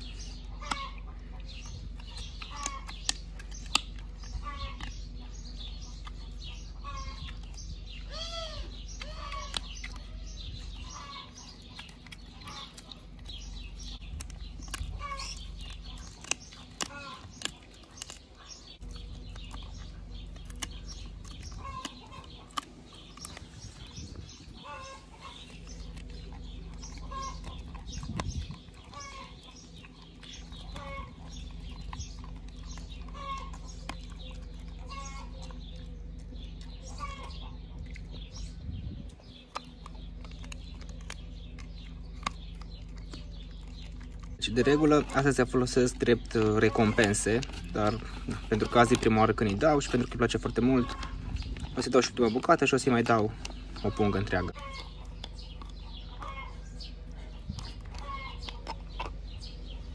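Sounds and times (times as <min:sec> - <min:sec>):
hens clucking: 0:00.0 - 0:38.3, 0:39.2 - 0:59.7
dog chewing: 0:00.0 - 0:59.9
sharp clicks and crunches: 0:00.0 - 0:59.9
steady low rumble: 0:00.0 - 0:59.9.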